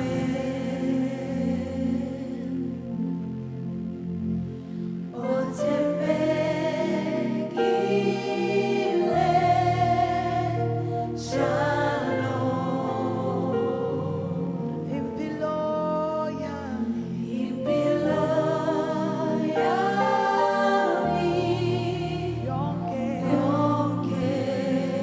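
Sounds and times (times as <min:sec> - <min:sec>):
choir singing a slow song: 0:00.0 - 0:25.0
sustained low accompaniment: 0:00.0 - 0:25.0.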